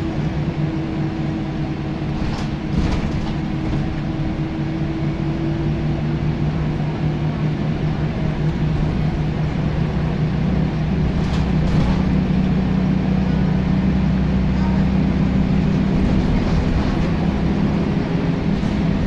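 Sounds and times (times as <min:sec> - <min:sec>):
bus diesel engine under load: 0:00.0 - 0:19.0.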